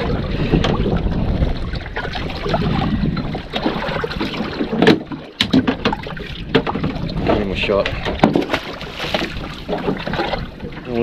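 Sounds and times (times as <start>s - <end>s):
water slapping boat: 0.0s - 11.0s
wind buffeting microphone: 0.0s - 11.0s.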